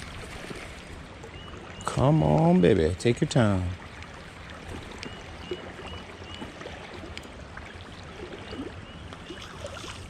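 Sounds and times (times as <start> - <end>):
faint water around boat: 0.0 - 10.0.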